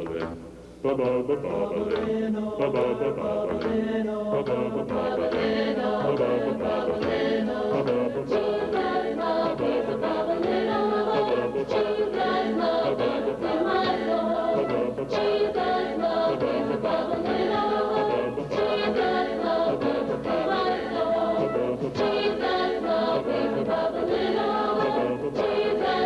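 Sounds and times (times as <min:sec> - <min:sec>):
choir singing: 0:00.9 - 0:26.0.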